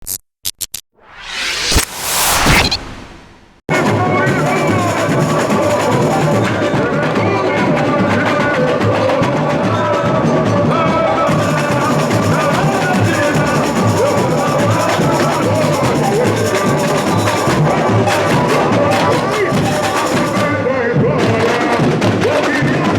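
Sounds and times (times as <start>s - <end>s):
drums and percussion: 1.1s - 22.9s.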